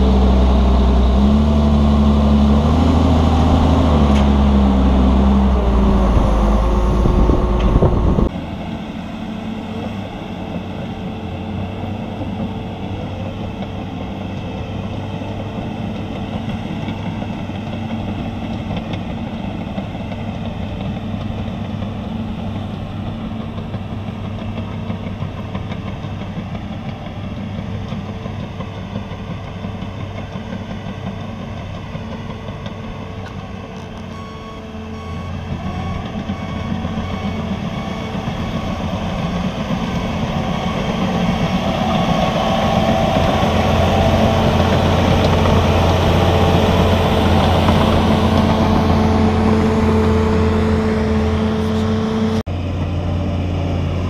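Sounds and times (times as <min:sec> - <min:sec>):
distant bulldozer engine: 0:00.0 - 0:54.0
dump truck diesel engine: 0:00.0 - 0:54.0
roller compactor working: 0:00.0 - 0:54.0.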